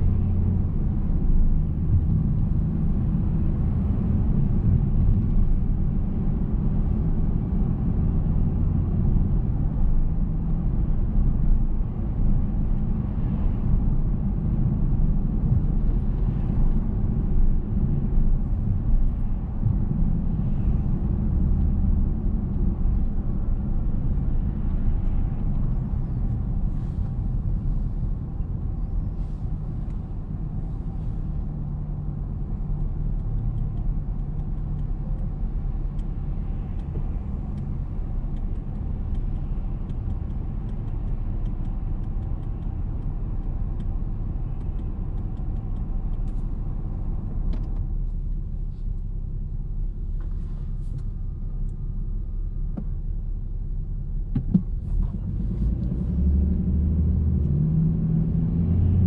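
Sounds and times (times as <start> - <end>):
street traffic: 0.0 - 59.0.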